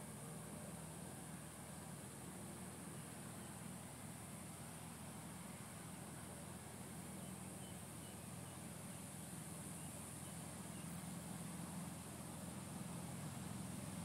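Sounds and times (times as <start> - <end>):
distant small plane engine drone: 0.0 - 14.0.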